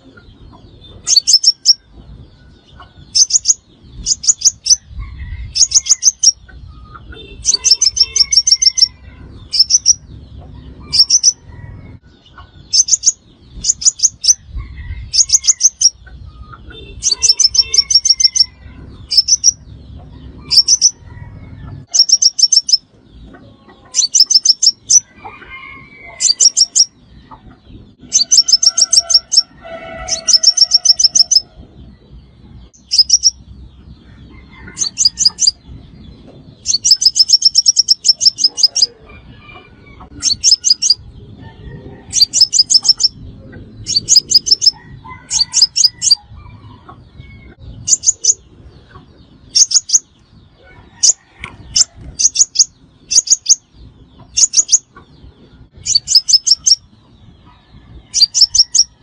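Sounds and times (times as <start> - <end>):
bird chipping calls: 0.0 - 33.6, 34.3 - 41.1, 42.0 - 50.3, 50.9 - 58.9.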